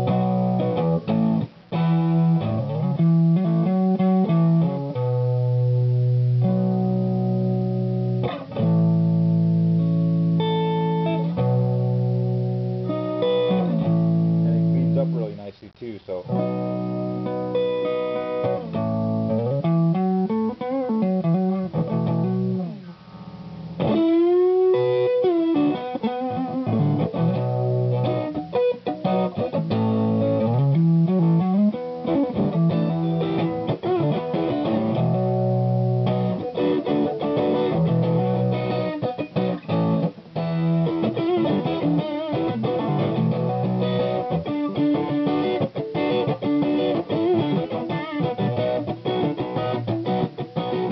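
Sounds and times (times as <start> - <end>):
overdriven electric guitar: 0.0 - 15.4, 16.1 - 50.9.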